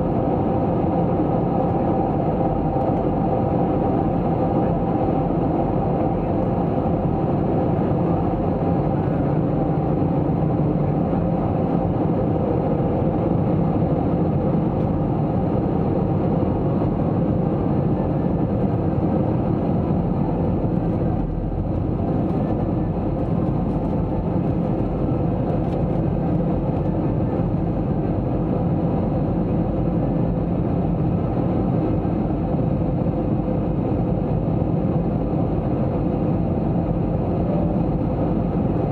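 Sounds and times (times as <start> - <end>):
airplane cabin noise: 0.0 - 38.9.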